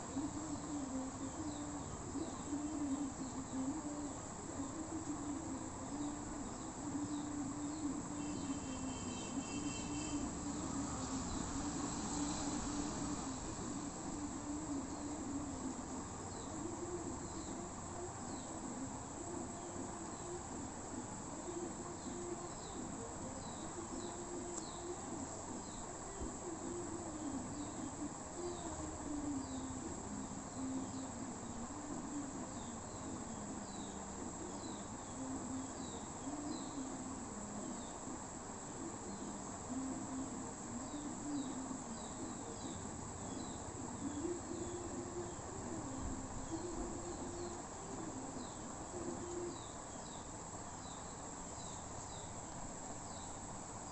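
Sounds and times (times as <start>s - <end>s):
insect chirps: 0.0s - 53.9s
insects trilling: 0.0s - 53.9s.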